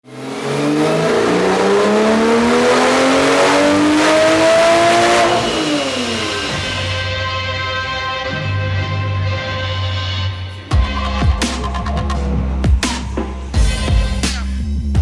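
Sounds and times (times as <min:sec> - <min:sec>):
car engine accelerating hard: 0:00.0 - 0:14.6.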